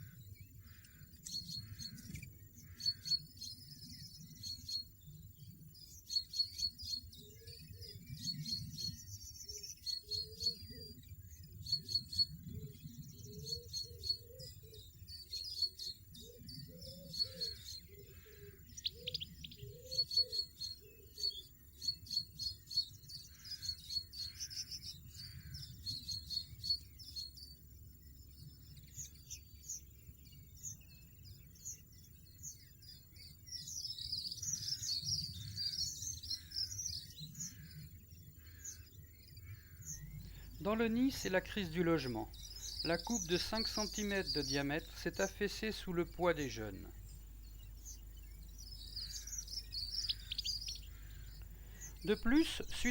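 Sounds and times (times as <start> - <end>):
finches chirping: 0.0 - 52.9.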